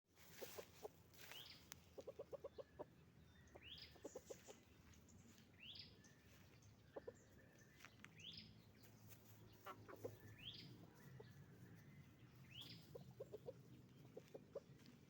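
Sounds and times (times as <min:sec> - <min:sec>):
chickens clucking: 0:00.2 - 0:05.4, 0:06.3 - 0:08.1, 0:08.8 - 0:15.0.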